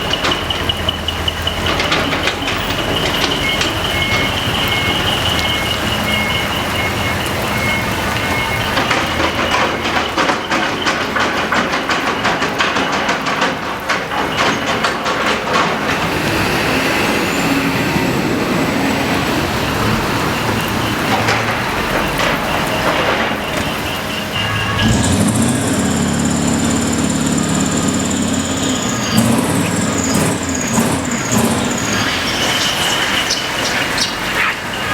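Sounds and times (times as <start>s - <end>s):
diesel truck engine clattering: 0.0s - 34.9s.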